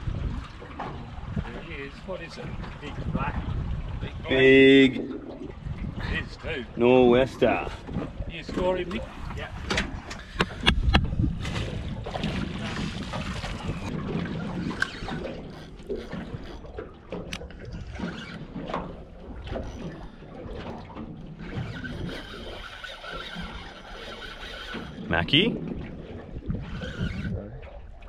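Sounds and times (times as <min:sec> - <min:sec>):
water slapping boat hull: 0:00.0 - 0:28.0
wind on microphone: 0:00.0 - 0:28.0.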